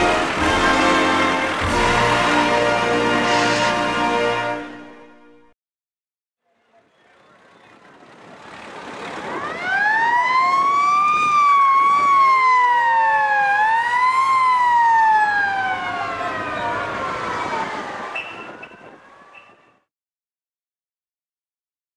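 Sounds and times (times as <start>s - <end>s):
emergency vehicle siren wailing: 0.0s - 4.9s, 7.0s - 19.9s.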